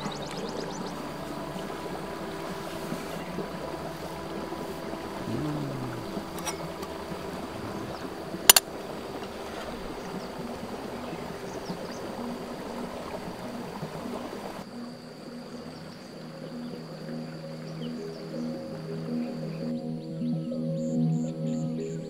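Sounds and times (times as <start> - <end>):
stream water flowing: 0.0 - 19.7
high insect drone: 0.0 - 22.0.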